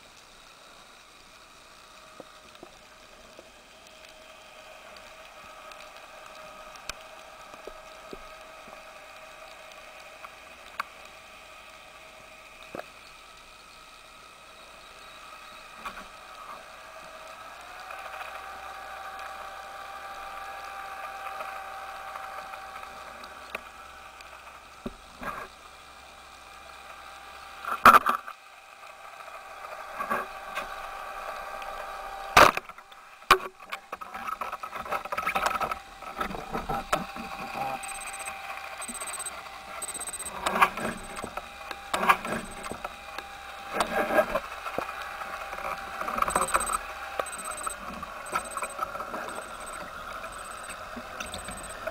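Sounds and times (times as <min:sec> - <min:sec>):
underwater motor hum: 0:00.0 - 0:51.9.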